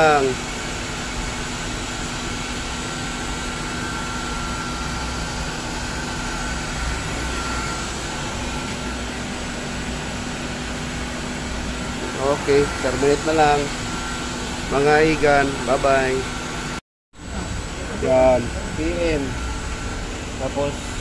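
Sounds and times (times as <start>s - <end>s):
machinery high whine: 0.0s - 21.0s
machinery low hum: 0.0s - 21.0s.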